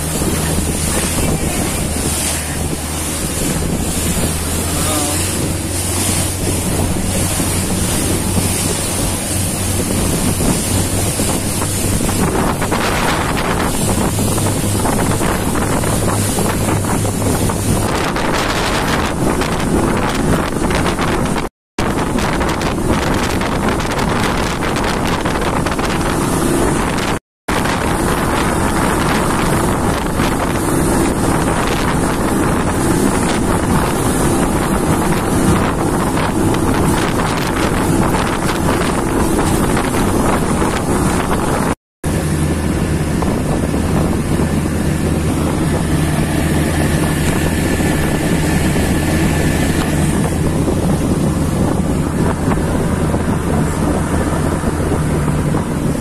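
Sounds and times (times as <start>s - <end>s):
boat engine drone: 0.0s - 56.0s
rushing water: 0.0s - 56.0s
wind buffeting microphone: 0.0s - 56.0s.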